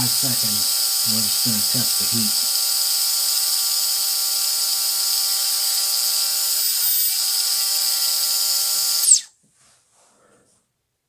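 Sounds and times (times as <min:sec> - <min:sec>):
motor high-pitched whine: 0:00.0 - 0:09.3.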